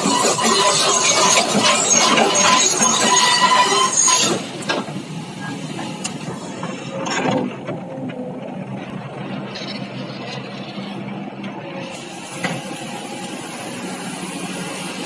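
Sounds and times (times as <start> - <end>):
excavator tracks screeching and clanking: 0.0 - 15.0.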